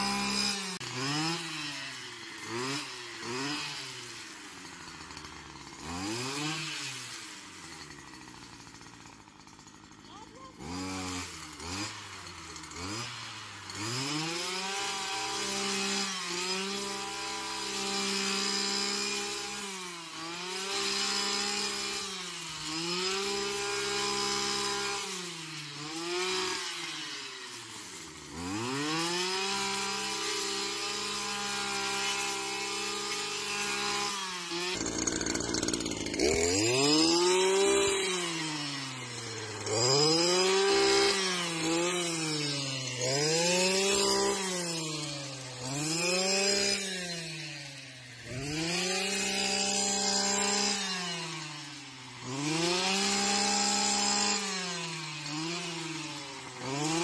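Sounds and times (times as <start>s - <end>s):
brush cutter engine revving: 0.0s - 57.0s.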